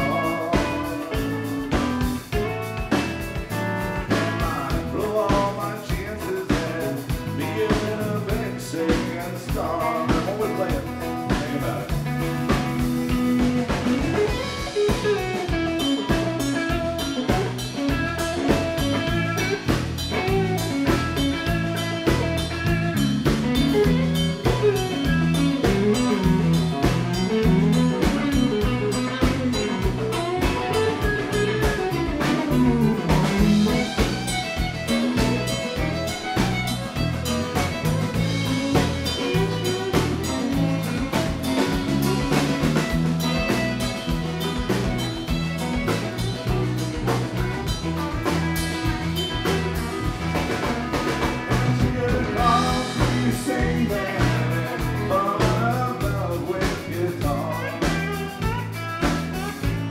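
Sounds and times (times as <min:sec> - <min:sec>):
live country band playing: 0:00.0 - 0:59.9.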